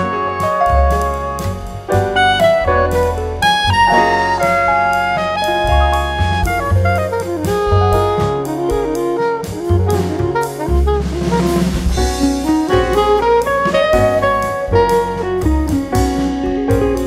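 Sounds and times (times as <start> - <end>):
bass notes: 0.0 - 17.0
drum kit: 0.0 - 17.0
horn melody: 0.0 - 17.0
jazz music: 0.0 - 17.0.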